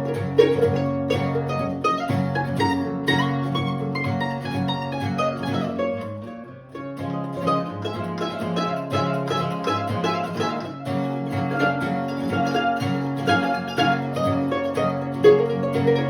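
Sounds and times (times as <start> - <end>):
fast-picked acoustic strings: 0.0 - 16.0.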